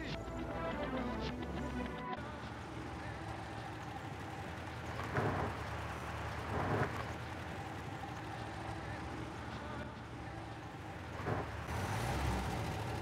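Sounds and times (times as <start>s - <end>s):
car engine and tyres: 0.0s - 13.0s.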